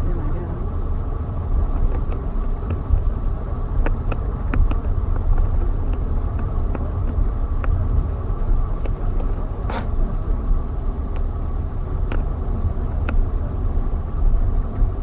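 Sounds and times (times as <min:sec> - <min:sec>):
road and engine rumble in cabin: 0:00.0 - 0:15.0.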